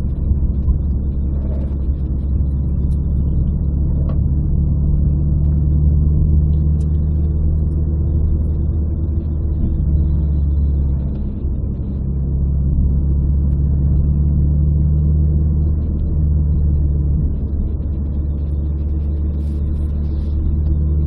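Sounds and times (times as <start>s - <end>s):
car engine drone inside cabin: 0.0s - 21.0s
road noise: 0.0s - 21.0s.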